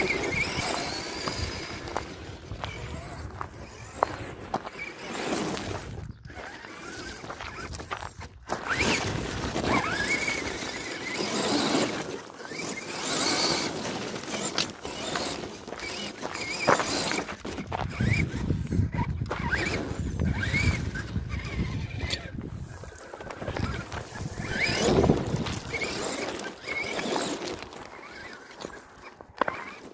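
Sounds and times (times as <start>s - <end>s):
electric motor whining: 0.0s - 29.9s
tyres crunching on loose stones: 0.0s - 29.9s.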